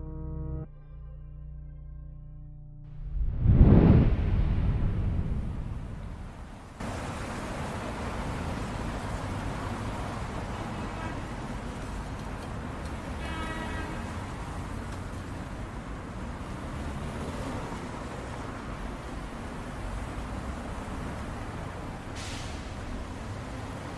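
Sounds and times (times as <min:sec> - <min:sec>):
road traffic hiss and rumble: 0:03.1 - 0:23.9.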